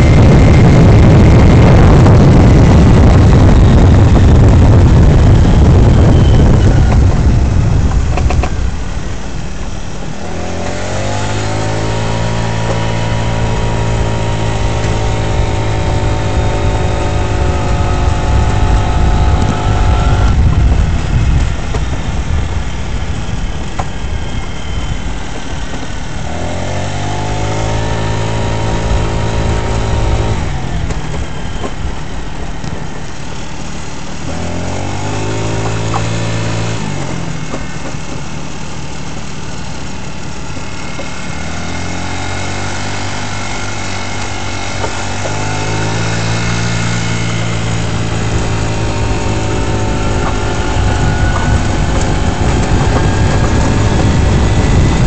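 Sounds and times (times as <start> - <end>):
scooter engine revving: 0.0 - 55.0.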